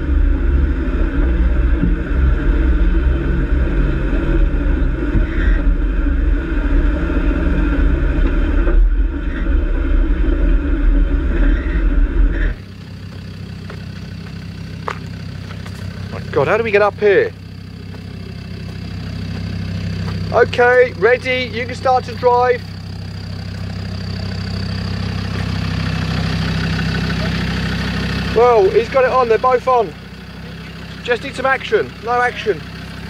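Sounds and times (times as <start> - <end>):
engine idling: 0.0 - 33.0
vehicle engine rumbling: 0.0 - 33.0.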